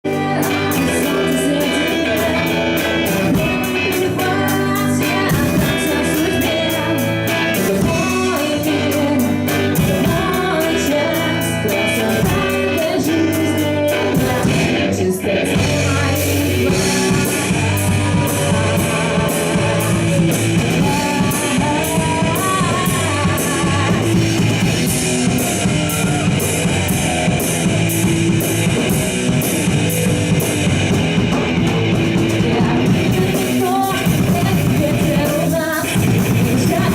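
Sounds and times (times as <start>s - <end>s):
person singing: 0.0s - 28.0s, 32.1s - 36.9s
drum kit beat: 0.0s - 36.9s
electric guitar: 0.0s - 36.9s.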